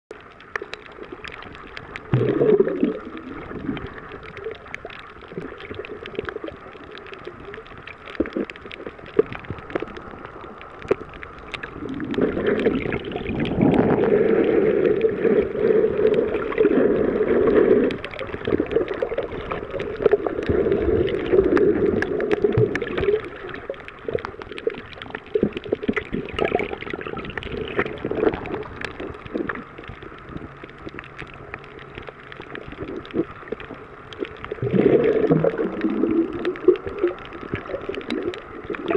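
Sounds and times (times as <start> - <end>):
faint clicks: 0.1 - 14.1, 14.9 - 38.9
muffled underwater sloshing: 0.1 - 38.9.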